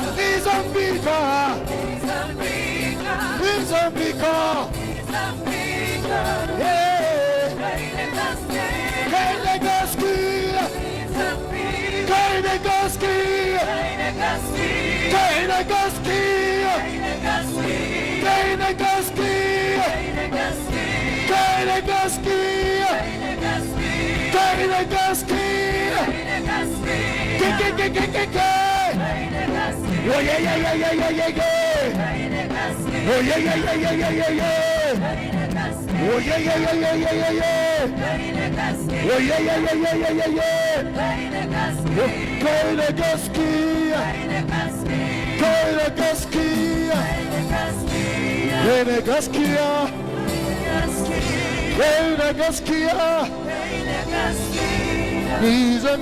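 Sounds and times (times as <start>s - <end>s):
band with drums and cymbals: 0.0s - 56.0s
group of voices singing: 0.0s - 56.0s
instrumental accompaniment: 0.0s - 56.0s.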